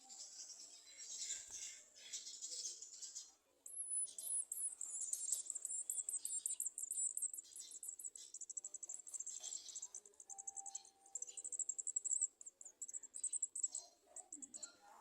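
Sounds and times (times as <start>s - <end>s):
sunbirds chirping high-pitched: 0.0s - 15.0s.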